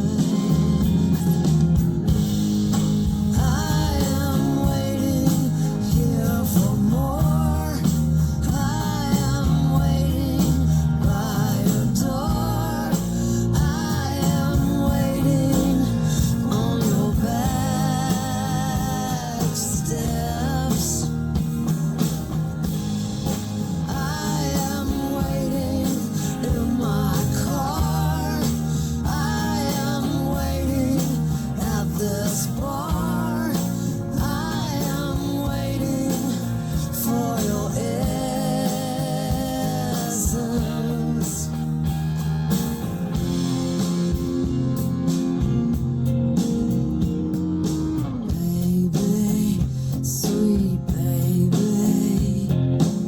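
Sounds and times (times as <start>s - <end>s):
person singing: 0.0s - 1.7s, 3.3s - 21.8s, 23.8s - 41.7s, 46.4s - 53.0s
band playing with guitar: 0.0s - 53.0s.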